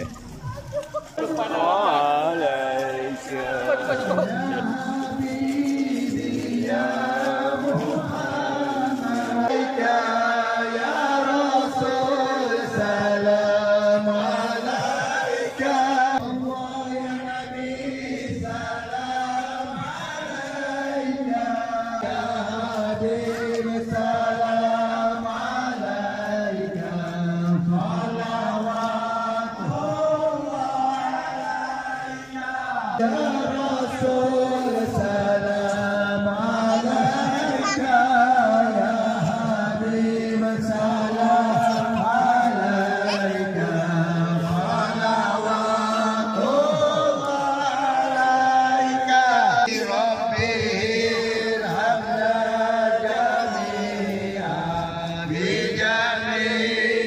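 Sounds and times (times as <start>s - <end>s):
men chanting together: 1.2s - 57.0s.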